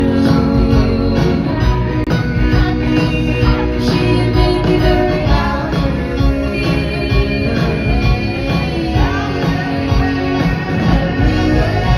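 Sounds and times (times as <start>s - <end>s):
live pop-rock band: 0.0s - 11.9s
voices singing: 0.0s - 11.9s.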